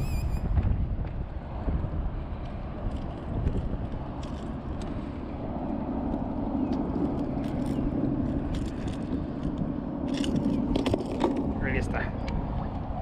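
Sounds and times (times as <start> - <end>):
steady low hum: 0.0 - 13.0
wind rumbling on microphone: 0.0 - 13.0.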